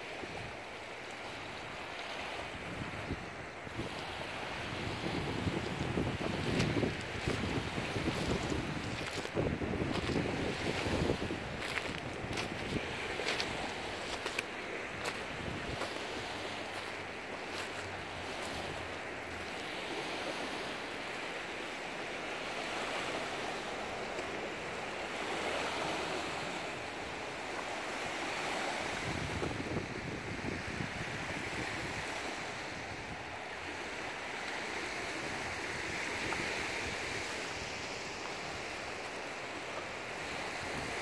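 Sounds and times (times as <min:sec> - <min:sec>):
waves lapping on pebble beach: 0:00.0 - 0:41.0
wind on microphone: 0:01.4 - 0:21.1, 0:25.1 - 0:41.0.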